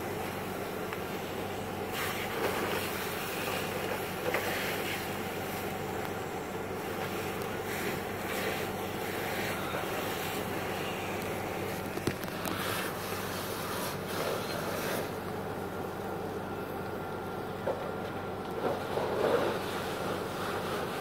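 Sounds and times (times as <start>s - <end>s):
fire hose spraying water: 0.0s - 15.4s, 18.6s - 21.0s
low engine hum: 0.0s - 21.0s.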